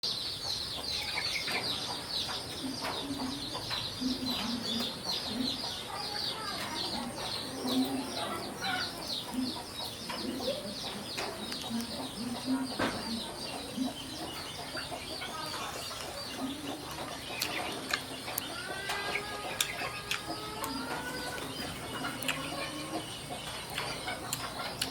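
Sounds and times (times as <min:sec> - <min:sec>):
chickens clucking: 0:00.0 - 0:24.9
rapid high chirping: 0:00.0 - 0:24.9.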